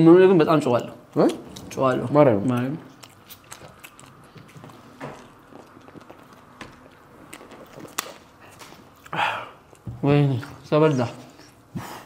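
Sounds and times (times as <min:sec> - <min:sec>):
chewing: 0:00.7 - 0:12.0.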